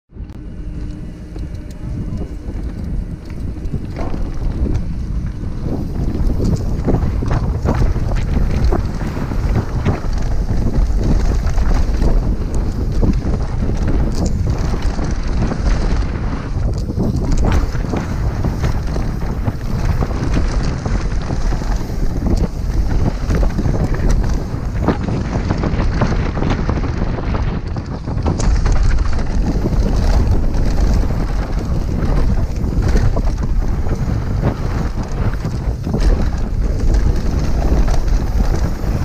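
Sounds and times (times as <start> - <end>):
tyres roaring on dirt trail: 0.1 - 39.0
wind buffeting microphone: 0.1 - 39.0
bike knocks and clatters: 0.6 - 39.0.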